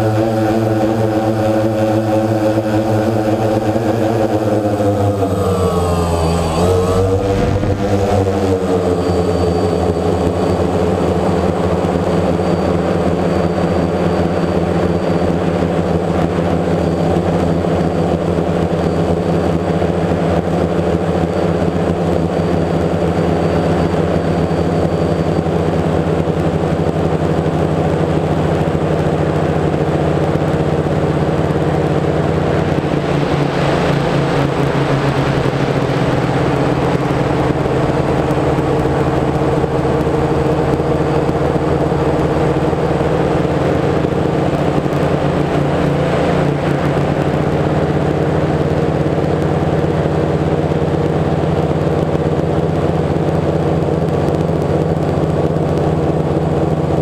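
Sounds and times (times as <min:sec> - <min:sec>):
drone propellers humming: 0:00.0 - 0:57.0.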